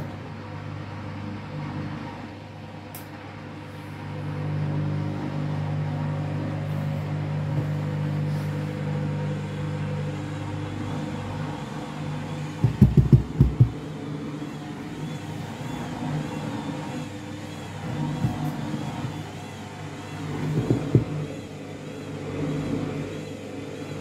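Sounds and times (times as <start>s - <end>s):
washing machine motor humming: 0.0s - 24.0s.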